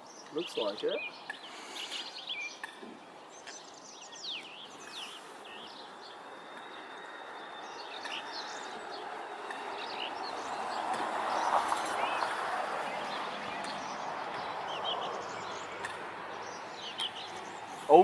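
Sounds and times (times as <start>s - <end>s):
birds chirping: 0.0s - 18.0s
rushing outdoor noise: 0.0s - 18.0s.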